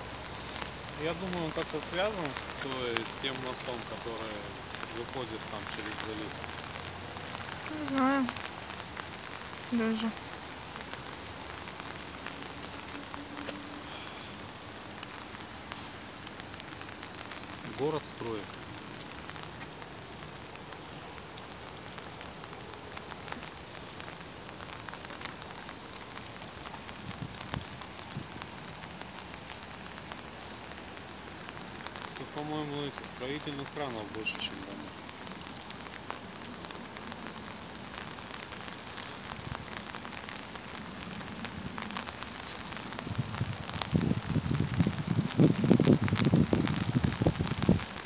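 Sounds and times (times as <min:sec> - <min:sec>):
raindrop ticks: 0:00.0 - 0:48.0
steady rain falling: 0:00.0 - 0:48.0.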